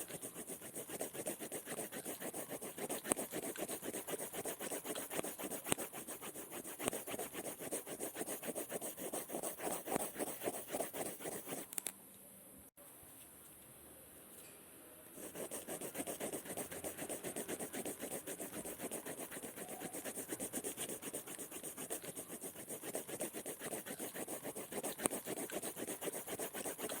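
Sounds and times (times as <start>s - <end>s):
pen scribbling on paper: 0.0s - 11.7s, 15.2s - 27.0s.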